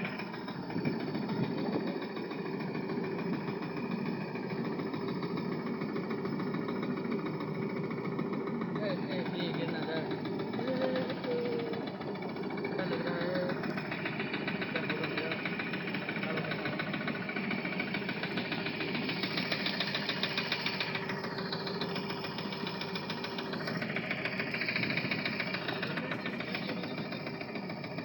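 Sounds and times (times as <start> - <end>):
miniature train clattering: 0.0 - 28.0.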